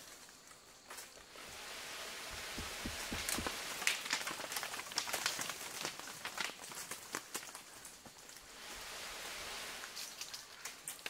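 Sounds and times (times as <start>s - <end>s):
dry leaves crackling: 0.0s - 11.0s
soft hiss: 0.0s - 11.0s.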